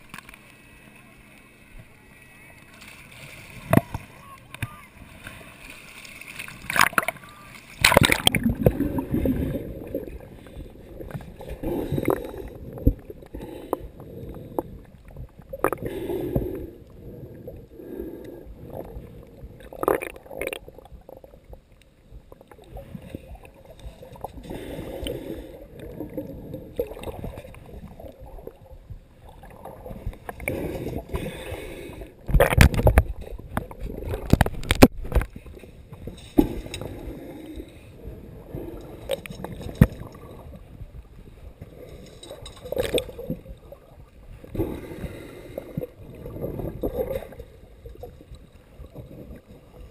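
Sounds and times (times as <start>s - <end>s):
water splashing: 0.0s - 17.6s, 18.6s - 21.7s, 22.3s - 49.9s
muffled churning water: 0.0s - 49.9s.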